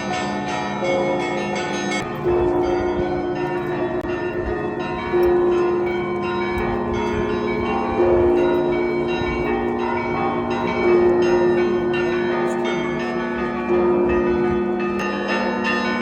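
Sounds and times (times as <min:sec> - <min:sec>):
large deep bell struck: 0:01.9 - 0:16.0.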